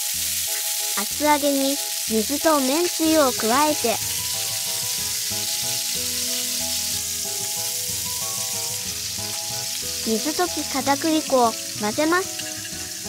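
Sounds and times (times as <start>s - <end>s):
liquid sizzling in a frying pan: 0.0s - 13.0s
soft background music: 0.0s - 13.0s.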